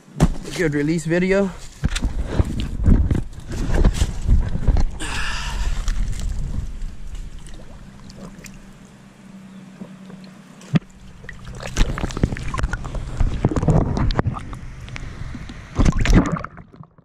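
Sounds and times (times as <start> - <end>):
water splashing and sloshing: 1.6 - 17.0
muffled underwater hum: 2.1 - 16.5.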